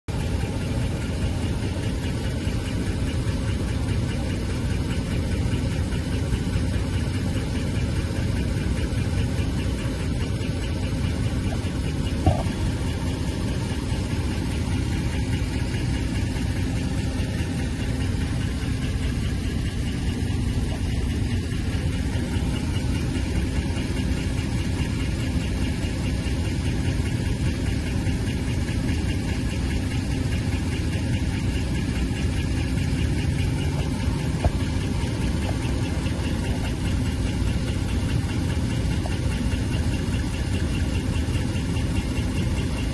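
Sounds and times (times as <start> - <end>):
car engine idling with ticking: 0.0 - 42.9.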